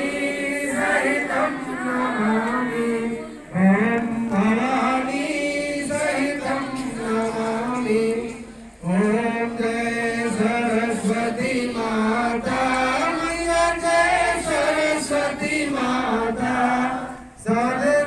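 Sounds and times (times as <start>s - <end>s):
group singing a hymn: 0.0s - 18.0s
man singing into a microphone: 2.0s - 18.0s.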